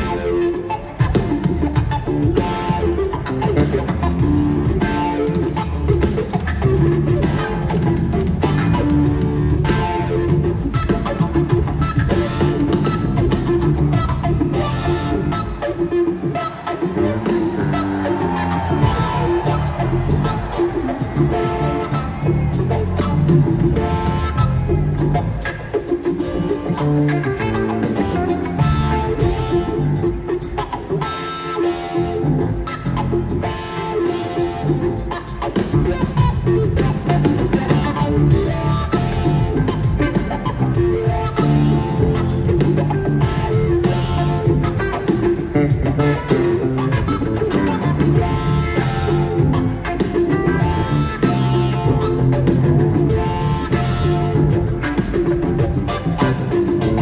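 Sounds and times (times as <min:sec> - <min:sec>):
drums: 0:00.0 - 0:57.0
electric guitar: 0:00.0 - 0:57.0.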